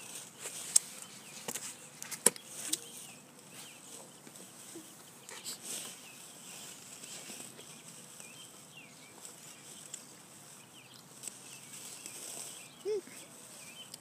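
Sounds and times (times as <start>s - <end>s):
faint bird chirps: 2.4s - 14.0s.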